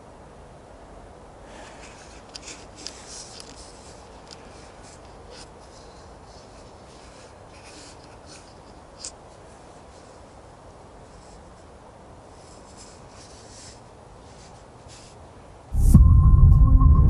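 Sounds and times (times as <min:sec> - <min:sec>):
low steady hiss: 0:00.0 - 0:16.7
clothing rustling on microphone: 0:01.5 - 0:15.2.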